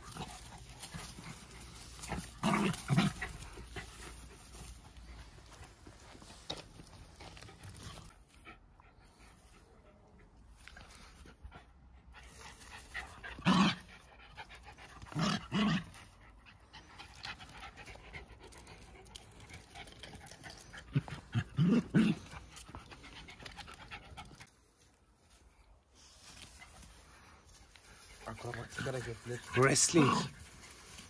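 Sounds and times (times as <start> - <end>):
dogs panting and scuffling: 0.0 - 31.0.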